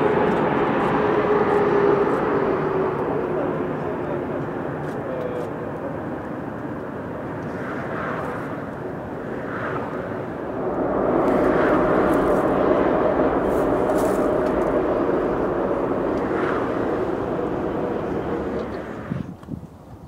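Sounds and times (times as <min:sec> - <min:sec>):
airliner jet engines rumbling: 0:00.0 - 0:20.0.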